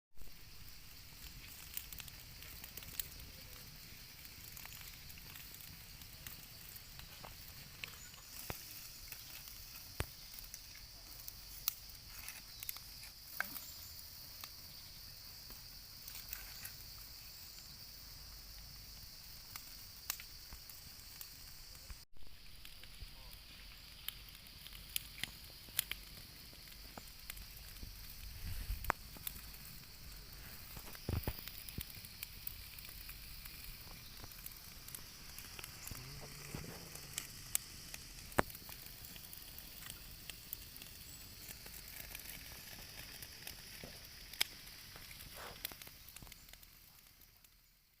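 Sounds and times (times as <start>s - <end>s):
fire pops and crackles: 0.1s - 48.0s
meat sizzling over fire: 0.1s - 48.0s.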